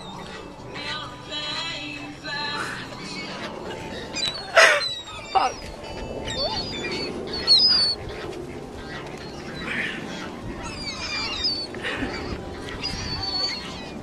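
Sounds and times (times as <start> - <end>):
flock of birds squawking: 0.0 - 14.0.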